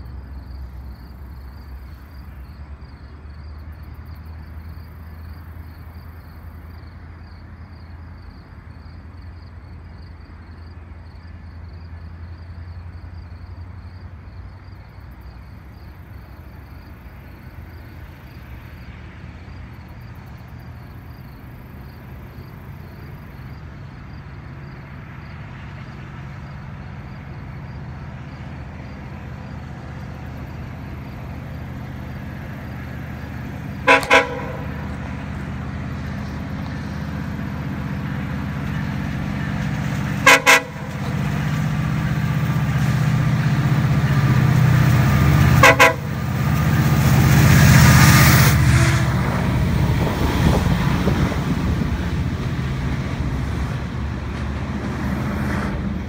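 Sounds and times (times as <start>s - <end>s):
distant train rumble: 0.0s - 56.0s.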